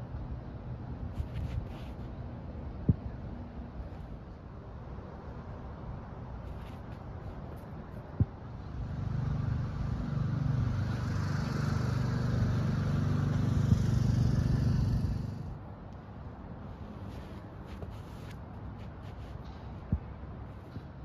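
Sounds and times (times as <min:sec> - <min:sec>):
vehicle engine hum: 0:00.0 - 0:21.0.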